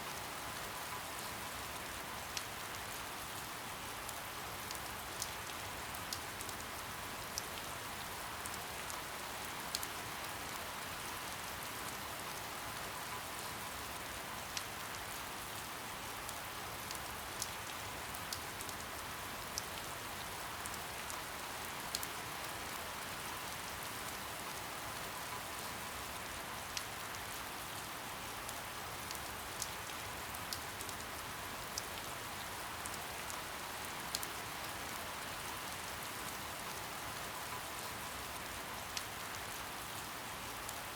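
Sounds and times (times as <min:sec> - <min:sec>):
soft rain hiss: 0:00.0 - 0:40.9
raindrops ticking on a surface: 0:00.1 - 0:40.9.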